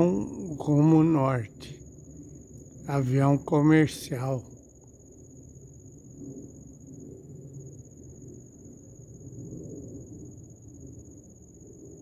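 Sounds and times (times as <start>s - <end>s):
distant jet airliner rumble: 0.0s - 12.0s
insect trill: 0.0s - 12.0s.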